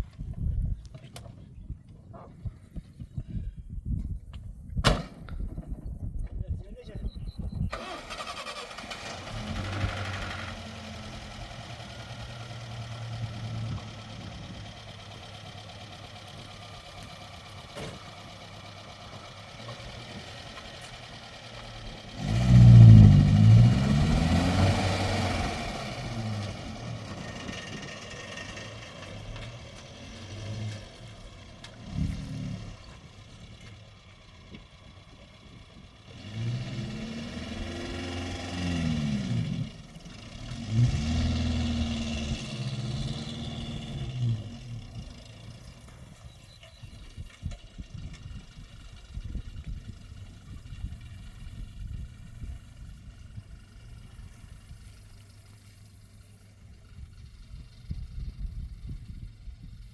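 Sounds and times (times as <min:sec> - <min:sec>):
vehicle engine idling and revving: 0:06.8 - 0:59.9.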